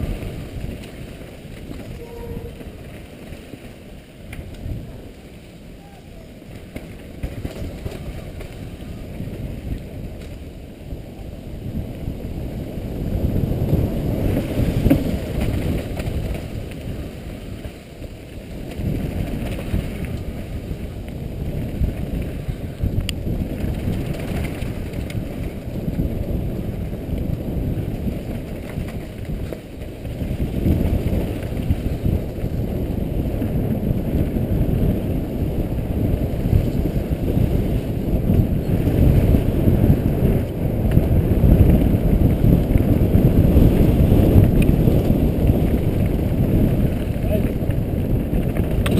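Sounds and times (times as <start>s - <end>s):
bike tyres rumbling on dirt: 0.0s - 48.9s
wind buffeting microphone: 0.0s - 48.9s.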